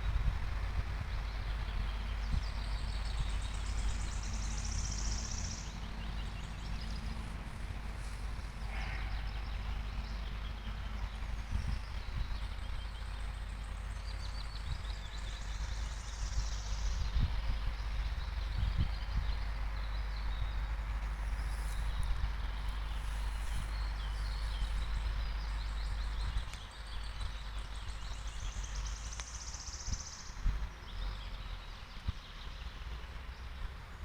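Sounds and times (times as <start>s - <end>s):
steady low rumble: 0.0s - 34.0s
songbirds singing high trills: 0.1s - 32.8s.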